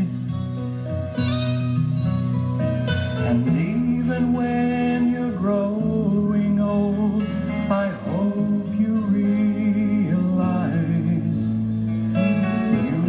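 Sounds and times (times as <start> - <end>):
instrumental accompaniment: 0.0 - 13.0.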